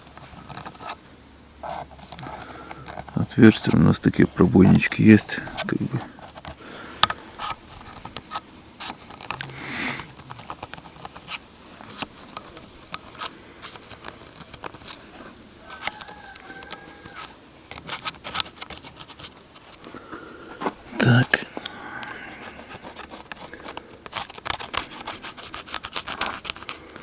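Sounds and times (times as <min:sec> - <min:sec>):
gasket sheet scraping and rustling: 0:00.0 - 0:01.0, 0:01.6 - 0:06.6, 0:07.3 - 0:27.0.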